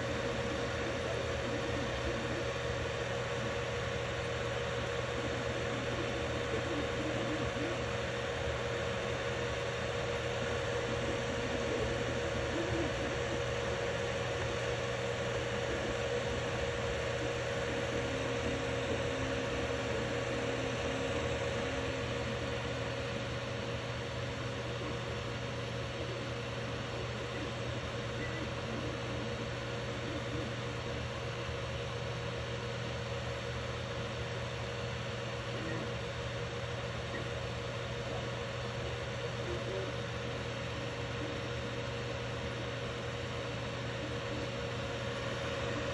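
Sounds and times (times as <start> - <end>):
faint motor tones: 0.0 - 45.9
printer hum and hiss: 0.0 - 45.9.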